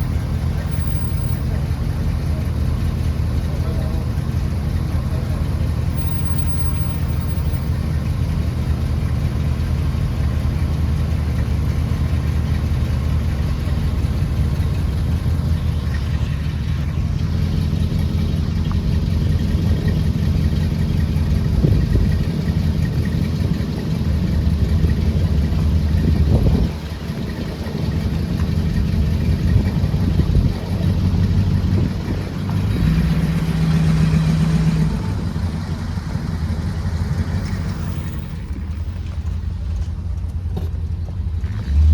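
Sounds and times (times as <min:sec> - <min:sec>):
car engine humming: 0:00.0 - 0:41.9.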